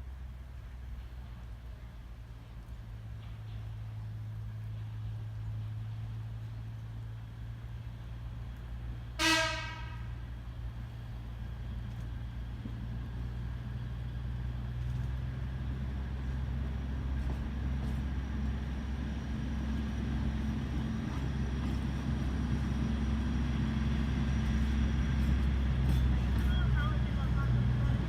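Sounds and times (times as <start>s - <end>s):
diesel locomotive rumbling: 0.0s - 28.0s.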